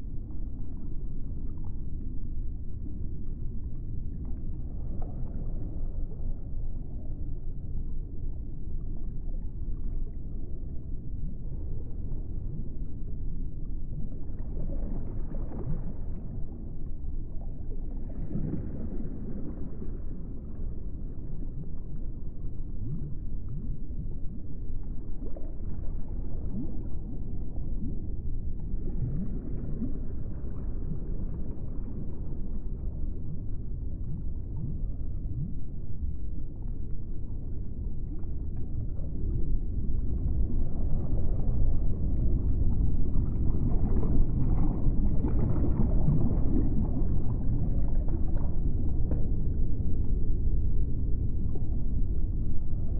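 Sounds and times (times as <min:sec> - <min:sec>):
low rumbling ambient drone: 0:00.0 - 0:52.9.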